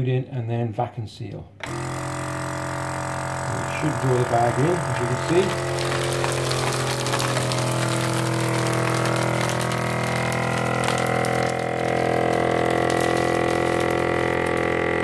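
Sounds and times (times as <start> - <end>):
vacuum sealer pump humming: 1.6 - 15.0.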